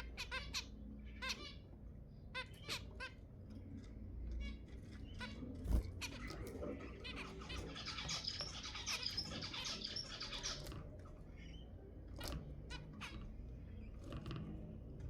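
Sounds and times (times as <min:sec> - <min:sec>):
finches chattering: 0:00.0 - 0:14.0.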